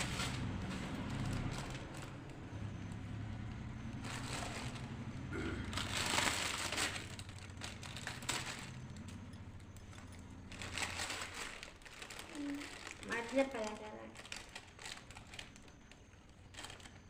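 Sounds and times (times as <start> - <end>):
sweet wrapper crinkling and tearing: 0.0 - 17.0.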